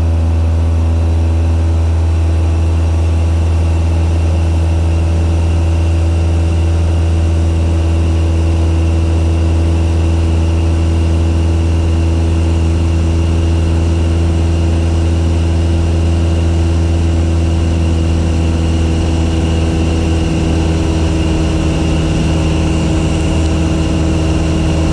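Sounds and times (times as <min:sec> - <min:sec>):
propeller plane engine droning: 0:00.0 - 0:24.9.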